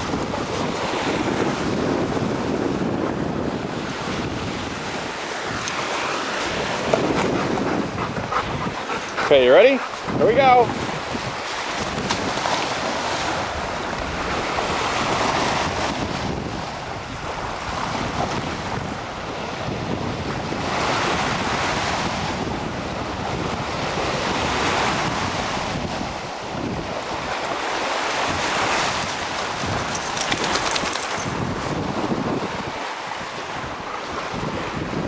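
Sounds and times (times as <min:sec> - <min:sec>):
waves washing onto shore: 0:00.0 - 0:35.0
wind buffeting microphone: 0:00.0 - 0:35.0.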